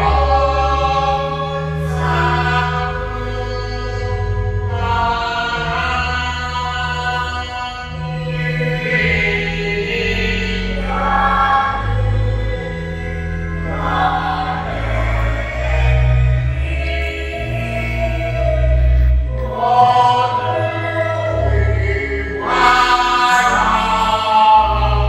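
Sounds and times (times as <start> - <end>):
choir singing held notes: 0.0 - 25.0
low sustained accompaniment: 0.0 - 25.0.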